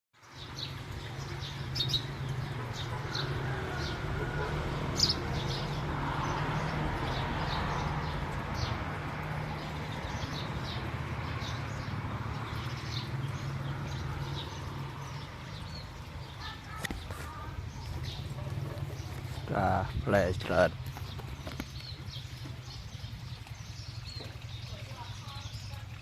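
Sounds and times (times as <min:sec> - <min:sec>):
birds chirping: 0:00.2 - 0:26.0.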